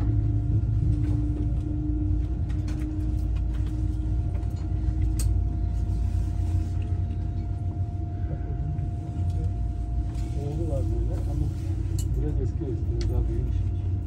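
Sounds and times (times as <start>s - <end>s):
faint constant whine: 0.0s - 14.0s
train rumble: 0.0s - 14.0s.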